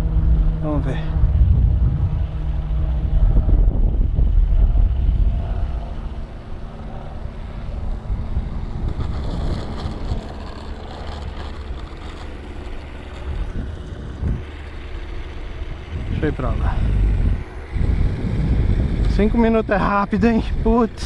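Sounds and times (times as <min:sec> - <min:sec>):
model plane rolling on runway: 0:00.0 - 0:21.0
wind buffeting microphone: 0:00.0 - 0:21.0.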